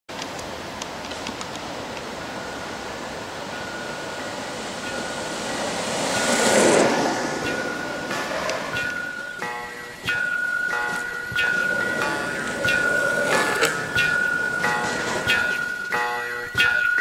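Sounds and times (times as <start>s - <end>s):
longboard wheels rolling on asphalt: 0.2s - 17.0s.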